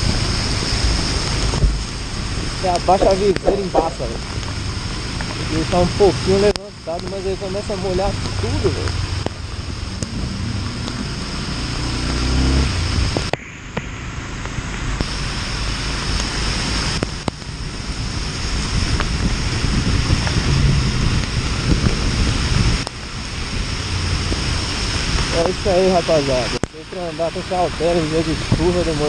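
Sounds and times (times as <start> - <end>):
motorcycle engine running: 0.0 - 29.0
rushing water: 0.0 - 29.0
wind: 0.0 - 29.0.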